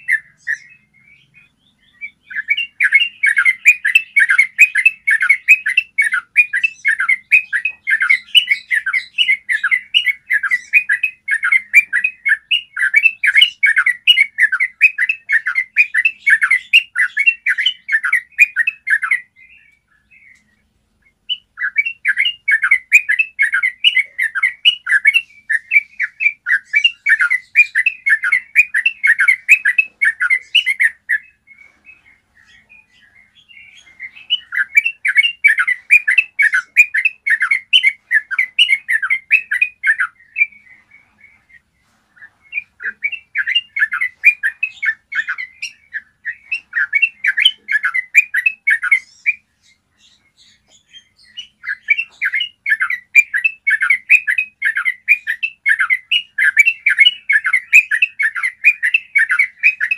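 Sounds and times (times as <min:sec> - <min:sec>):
bird singing rolling song: 0:00.0 - 0:59.9.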